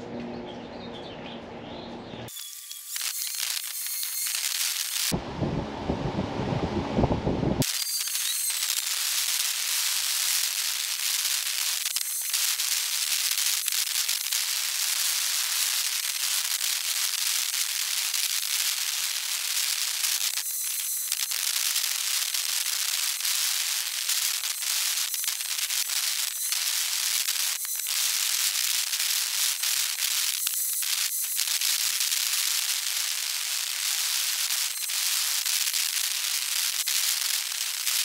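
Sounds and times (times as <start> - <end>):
dense crackling hiss: 2.9 - 5.1, 7.6 - 38.0.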